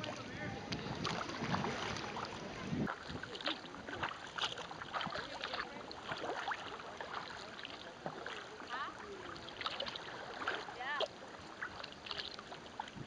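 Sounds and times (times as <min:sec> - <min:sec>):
paddle blades splashing: 0:00.0 - 0:13.0
water lapping against hull: 0:00.0 - 0:13.0.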